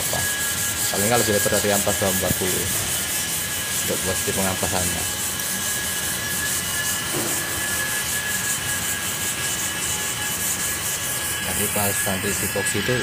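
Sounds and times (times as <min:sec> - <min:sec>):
sandpaper rasping on car panel: 0:00.0 - 0:13.0.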